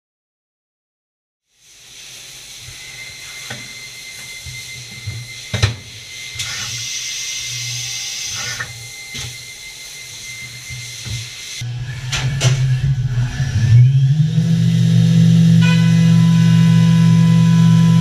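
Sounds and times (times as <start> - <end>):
milling machine whine: 1.7 - 18.0.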